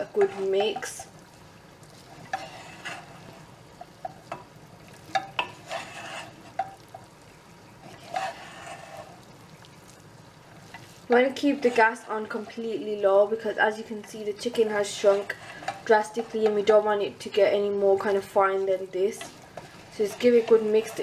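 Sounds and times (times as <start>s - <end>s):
utensil scraping a frying pan: 0.0s - 1.2s, 2.0s - 7.1s, 7.7s - 9.4s, 10.5s - 21.0s
faint sizzle: 0.0s - 21.0s.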